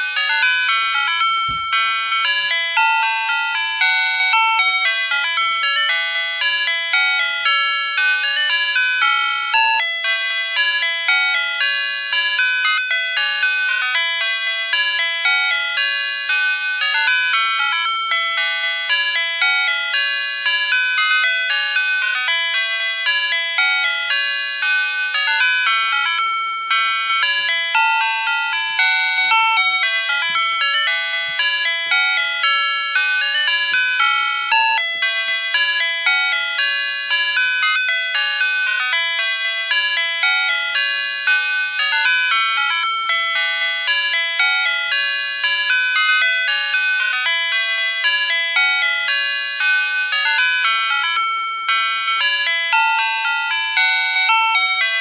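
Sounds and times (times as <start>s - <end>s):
electronic alarm chime melody: 0.0s - 55.0s.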